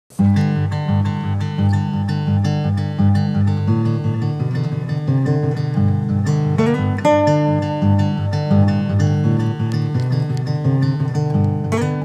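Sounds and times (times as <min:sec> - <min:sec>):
acoustic guitar picking: 0:00.1 - 0:12.0.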